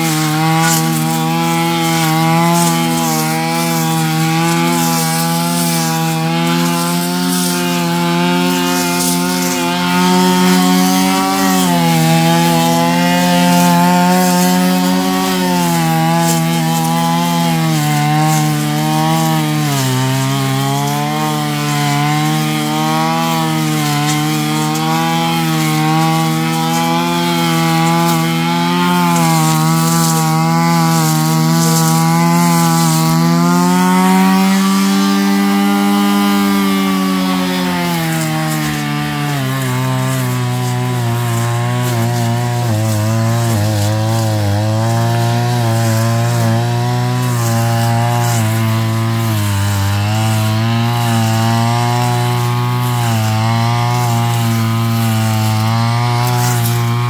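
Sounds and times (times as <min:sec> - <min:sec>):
brush cutter engine cutting grass: 0:00.0 - 0:57.0.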